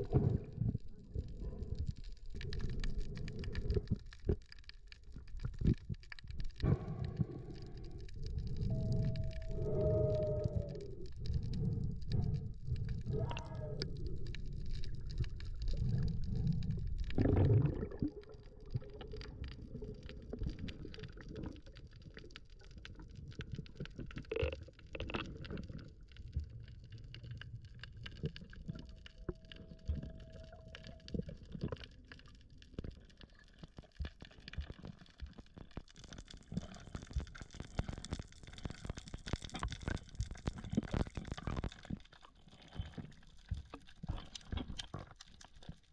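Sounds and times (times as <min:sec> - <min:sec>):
crackle of faint clicks: 0:00.0 - 0:45.9
underwater rumbling and gurgling: 0:00.0 - 0:45.9.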